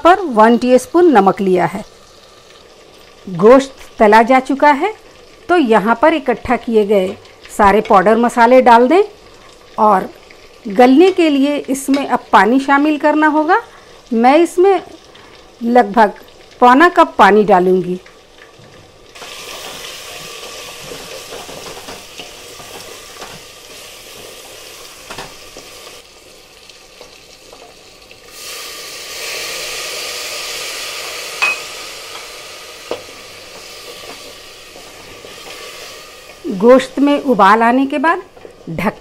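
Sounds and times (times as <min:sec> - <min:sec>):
meat sizzling in a pot: 0:00.0 - 0:39.0.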